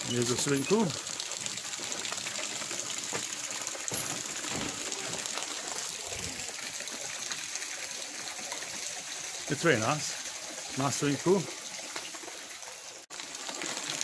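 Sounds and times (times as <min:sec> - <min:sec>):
fountain jets splashing into pool: 0:00.0 - 0:14.0.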